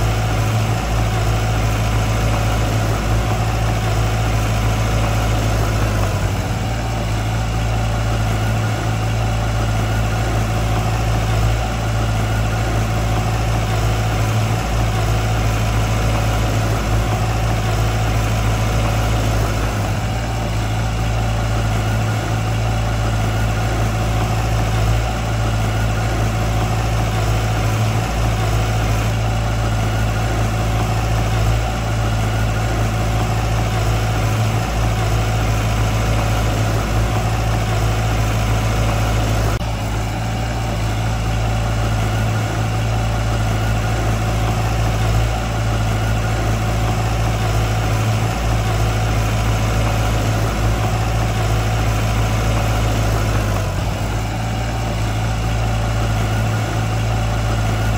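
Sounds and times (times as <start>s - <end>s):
diesel engine humming: 0.0s - 57.9s.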